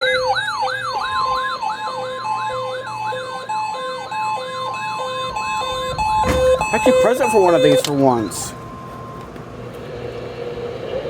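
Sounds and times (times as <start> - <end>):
beeping tone alternating pitch: 0.0 - 9.3
siren sweeping up and down: 0.0 - 9.3
steady warning alarm tone: 0.0 - 10.7.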